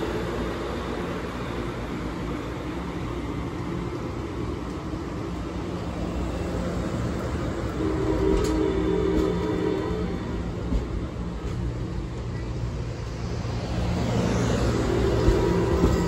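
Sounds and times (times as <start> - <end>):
passenger train rolling past: 0.0 - 16.0.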